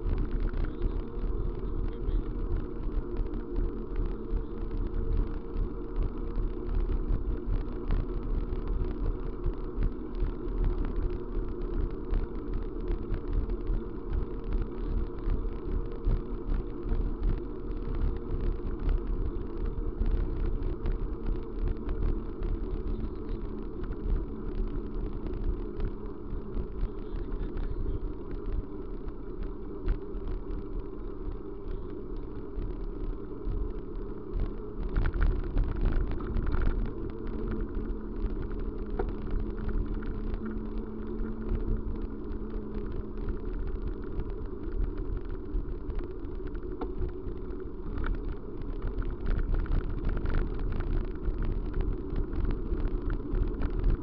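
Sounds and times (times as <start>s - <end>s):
vehicle travel noise: 0.0s - 54.0s.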